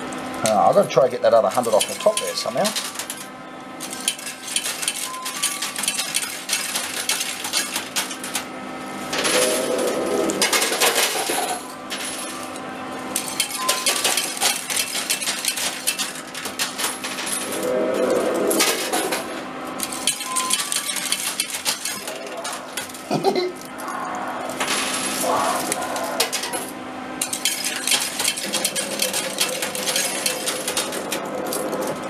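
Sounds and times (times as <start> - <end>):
steady machine hum: 0.0 - 32.0
coins clattering on metal shelves: 1.6 - 8.4, 9.1 - 17.6, 18.6 - 23.0, 24.6 - 32.0.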